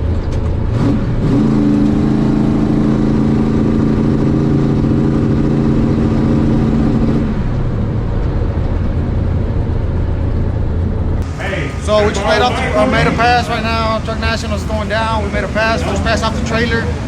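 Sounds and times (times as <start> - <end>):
truck engine running hard: 0.0 - 17.0.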